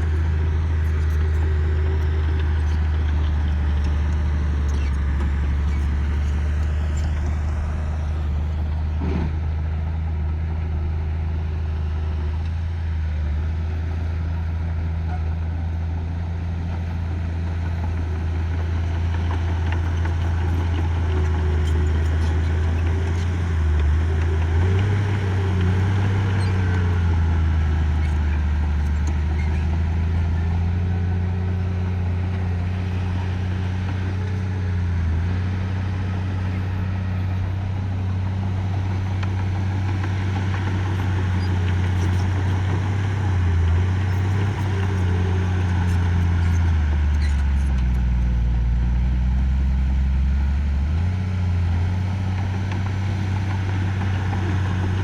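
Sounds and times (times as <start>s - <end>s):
earthmoving machine diesel engine: 0.0s - 55.0s.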